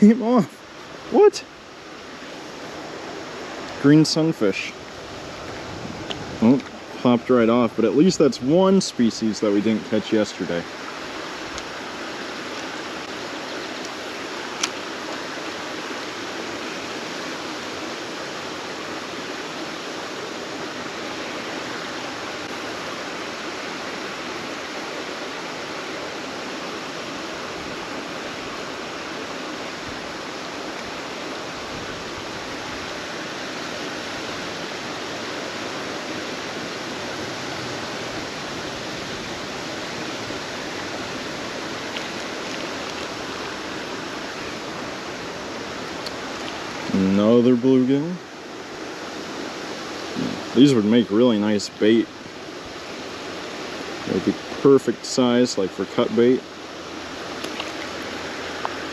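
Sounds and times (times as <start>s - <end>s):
creek water rushing: 0.0s - 58.9s.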